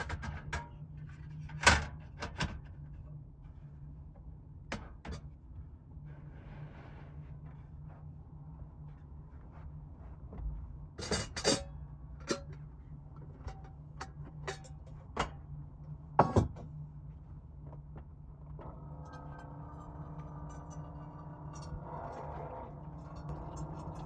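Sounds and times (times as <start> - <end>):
steady low hum: 2.7 - 24.0.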